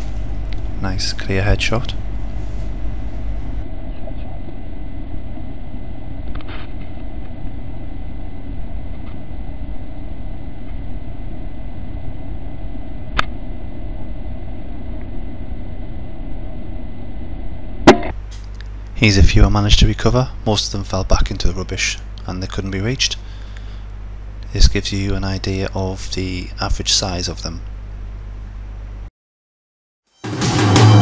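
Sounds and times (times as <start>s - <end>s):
low background rumble: 0.0s - 29.1s.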